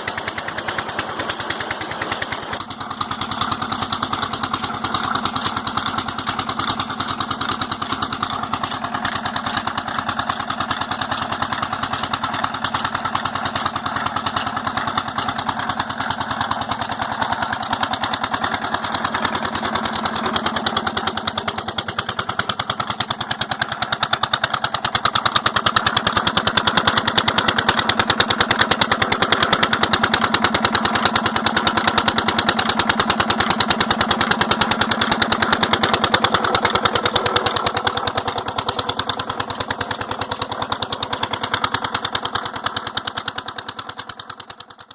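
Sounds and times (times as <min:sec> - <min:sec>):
diesel engine driving water pump: 0:00.0 - 0:44.9.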